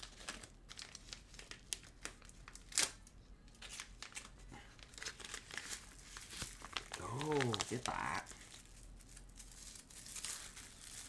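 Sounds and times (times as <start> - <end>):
paper envelope crinkling: 0.0 - 11.0.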